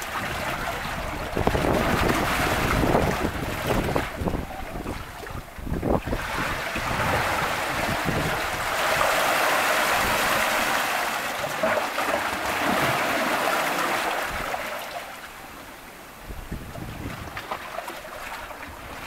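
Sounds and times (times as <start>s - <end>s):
seawater rushing through rocks: 0.0s - 15.4s.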